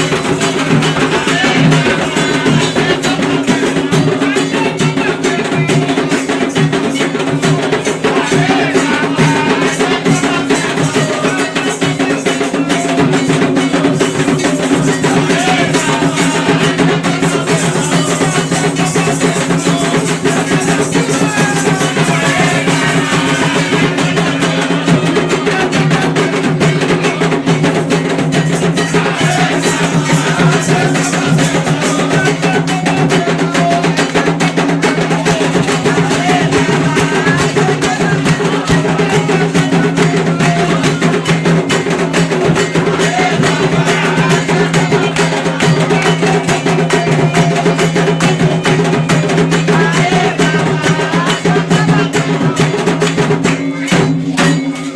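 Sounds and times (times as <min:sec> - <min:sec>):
fast hand drumming: 0:00.0 - 0:54.9
struck percussion keeping time: 0:00.0 - 0:54.9.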